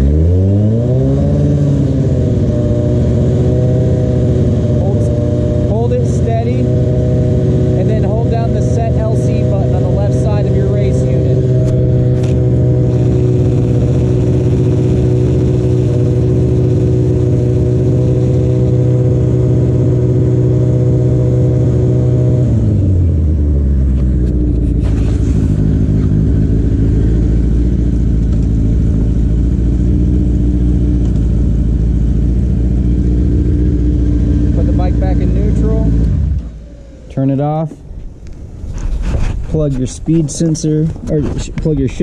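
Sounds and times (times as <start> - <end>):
motorcycle engine revving and idling: 0.0 - 42.0.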